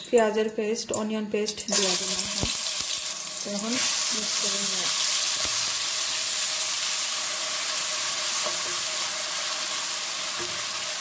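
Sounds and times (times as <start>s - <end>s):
paste sizzling in hot oil: 1.7s - 11.0s.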